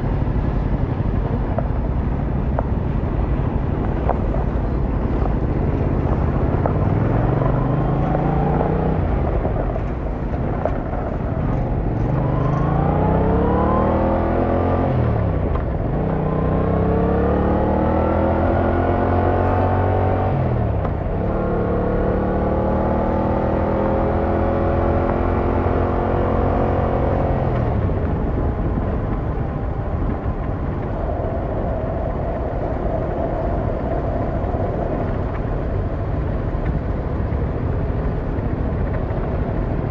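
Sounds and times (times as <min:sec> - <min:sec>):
motorcycle engine accelerating: 0:00.0 - 0:39.9
road noise: 0:00.0 - 0:39.9
wind noise: 0:00.0 - 0:39.9.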